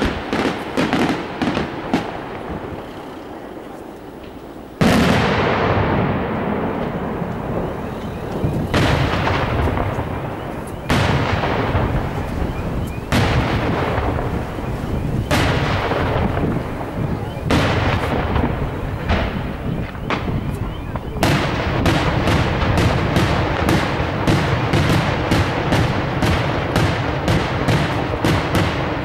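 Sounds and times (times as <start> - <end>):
firework shells bursting: 0.0 - 29.0.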